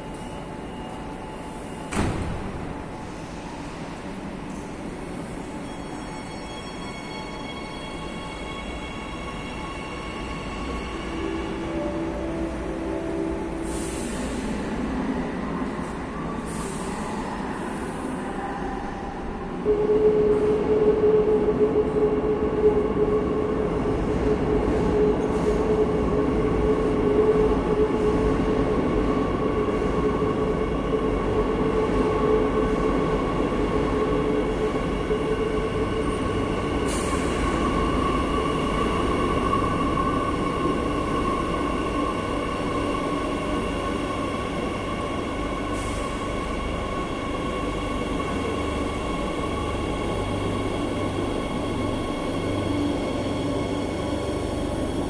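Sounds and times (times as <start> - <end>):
metro train arriving: 0.0 - 55.0.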